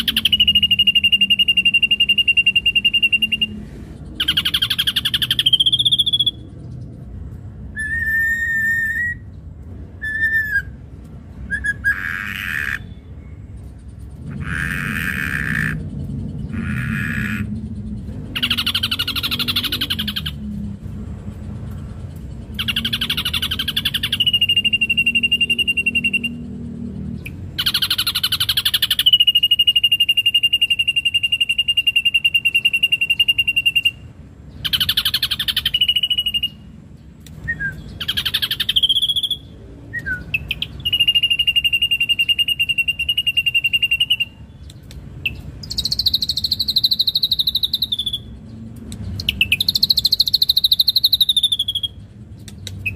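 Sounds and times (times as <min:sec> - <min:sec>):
bird singing harsh and whistled notes: 0:00.0 - 0:52.9.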